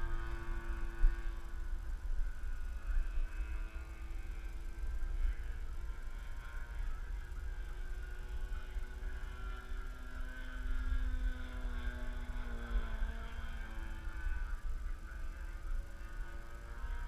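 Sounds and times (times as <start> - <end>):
model plane motor droning: 0.0 - 17.0.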